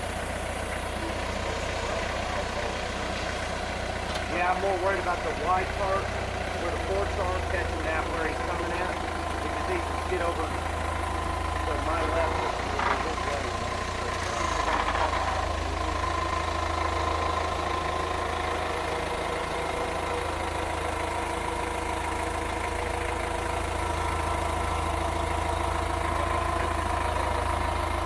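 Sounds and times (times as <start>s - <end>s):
forklift engine idling: 0.0s - 28.0s.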